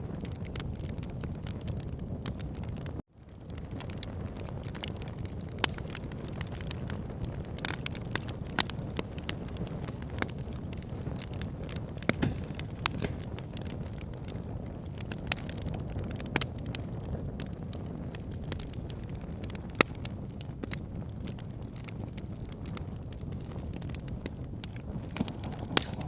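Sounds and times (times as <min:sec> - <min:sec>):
fire flames rumbling: 0:00.0 - 0:26.0
logs crackling and popping: 0:00.0 - 0:26.0
loud fire snaps: 0:00.1 - 0:26.0.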